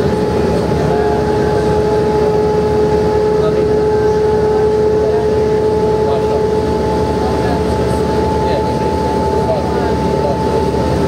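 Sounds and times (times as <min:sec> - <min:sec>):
bus engine and road rumble: 0:00.0 - 0:11.0
steady high whine: 0:00.0 - 0:11.0.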